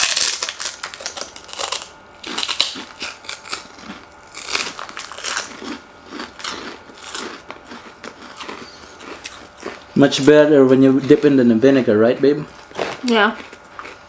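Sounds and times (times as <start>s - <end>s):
crunchy chewing: 0.0s - 11.5s, 12.4s - 14.0s.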